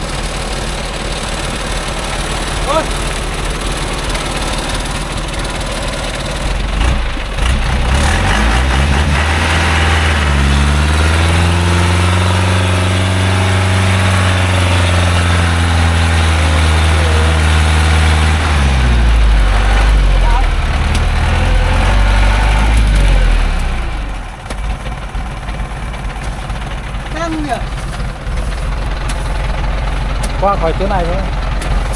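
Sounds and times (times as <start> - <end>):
truck engine revving: 0.0 - 31.9.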